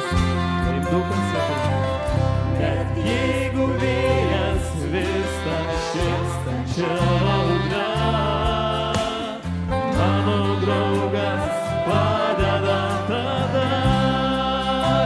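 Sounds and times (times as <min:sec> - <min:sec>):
bass and drums: 0:00.0 - 0:15.0
congregation singing a hymn: 0:02.5 - 0:15.0.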